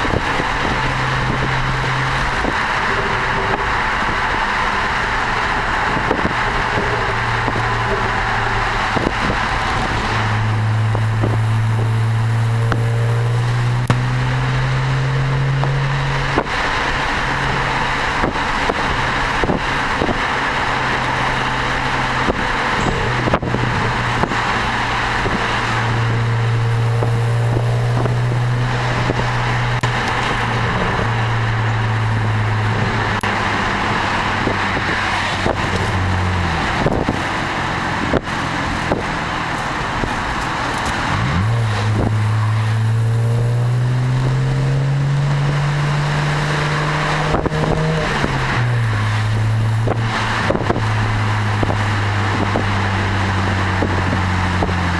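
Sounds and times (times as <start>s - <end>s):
car engine droning: 0.0s - 54.9s
wind and road noise: 0.0s - 54.9s.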